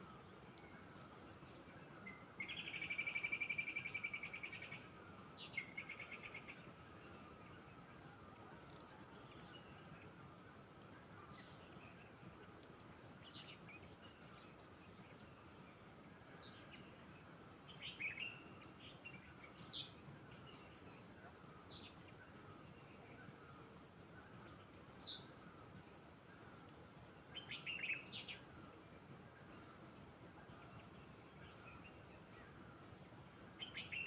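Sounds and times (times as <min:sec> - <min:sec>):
faint outdoor hiss: 0:00.0 - 0:34.0
small birds singing: 0:00.0 - 0:34.0.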